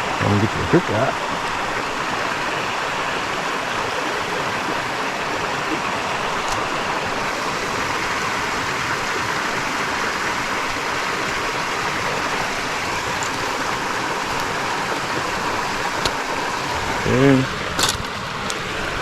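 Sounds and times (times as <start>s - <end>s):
water rushing over spillway: 0.0s - 19.0s.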